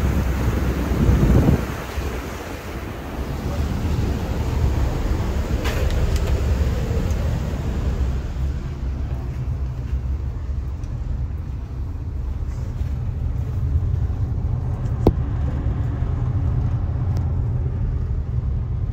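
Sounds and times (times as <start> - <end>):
ferry engines rumbling: 0.0 - 18.9.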